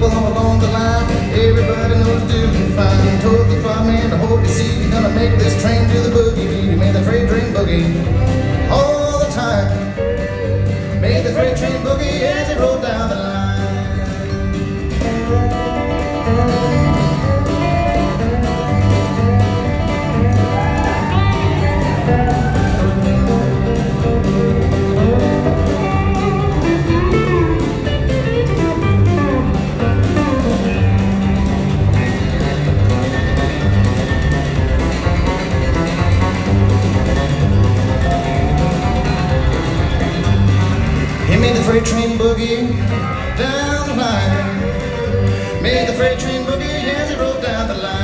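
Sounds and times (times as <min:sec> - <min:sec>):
guitar runs with bent notes: 0:00.0 - 0:48.0
steady drum beat: 0:00.0 - 0:48.0
walking upright bass: 0:00.0 - 0:48.0.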